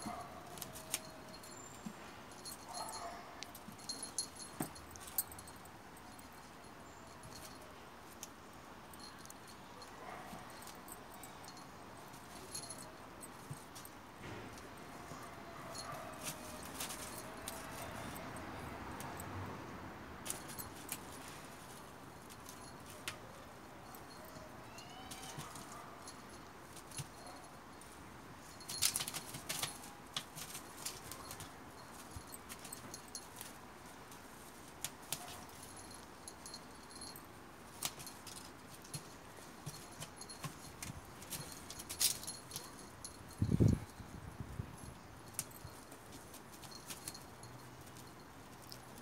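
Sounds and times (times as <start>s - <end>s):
light clicks and scratches: 0.0s - 19.5s, 20.2s - 44.0s, 44.8s - 49.0s
light jingle: 0.0s - 49.0s.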